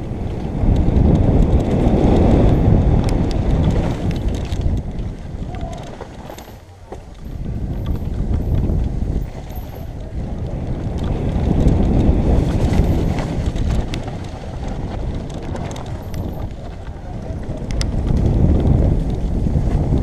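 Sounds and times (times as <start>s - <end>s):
bike tyres rolling over stones: 0.0s - 20.0s
sharp clicks from bike: 0.0s - 20.0s
wind buffeting microphone: 0.0s - 20.0s.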